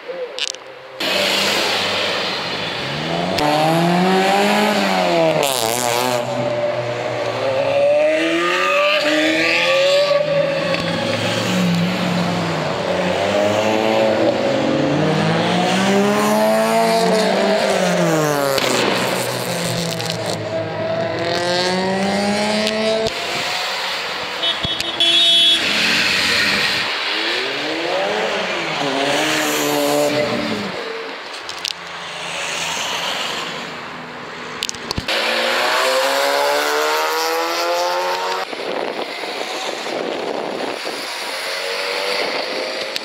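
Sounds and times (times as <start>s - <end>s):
car engine revving: 0.4s - 31.0s, 34.6s - 38.8s.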